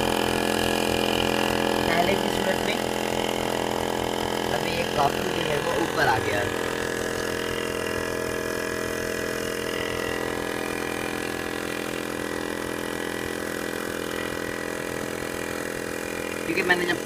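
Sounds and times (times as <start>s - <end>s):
tyre air compressor running: 0.0s - 17.0s.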